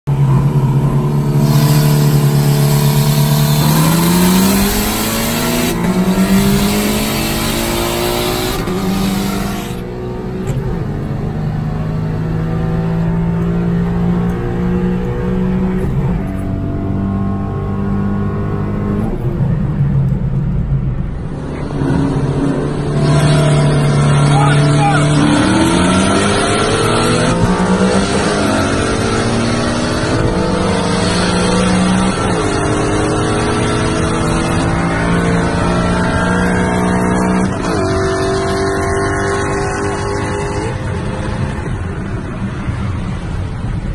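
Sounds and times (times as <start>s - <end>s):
turbocharged car engine accelerating: 0.1s - 43.9s.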